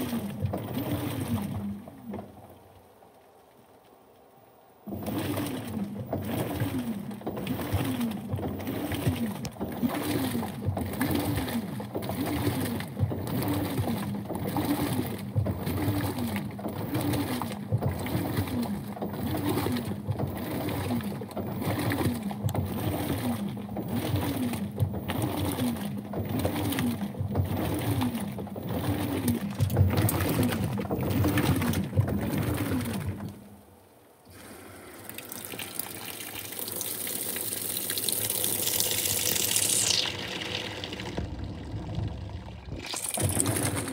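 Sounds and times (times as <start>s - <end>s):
washing machine motor whining: 0.0s - 2.5s, 4.8s - 43.9s.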